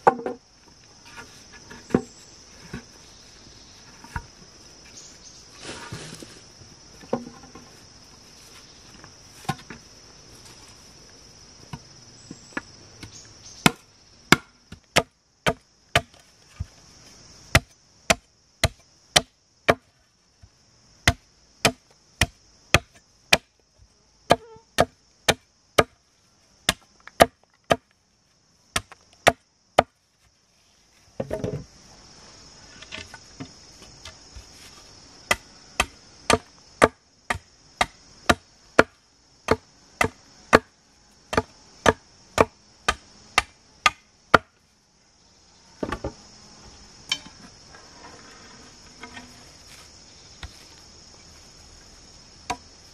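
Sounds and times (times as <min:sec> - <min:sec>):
insects buzzing: 0:00.0 - 0:52.9.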